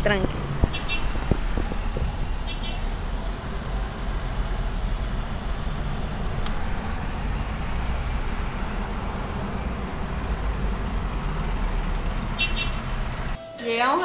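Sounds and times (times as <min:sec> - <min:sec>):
car rumbling in traffic: 0:00.0 - 0:13.4.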